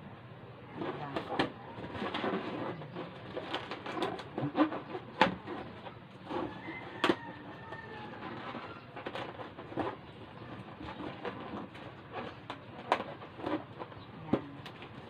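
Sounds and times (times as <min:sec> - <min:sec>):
balloons squeaking and rubbing: 0:00.8 - 0:15.0.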